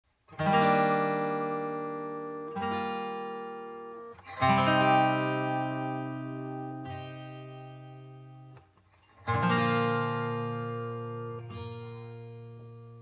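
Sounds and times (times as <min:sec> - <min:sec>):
acoustic guitar chords strummed: 0:00.3 - 0:13.0.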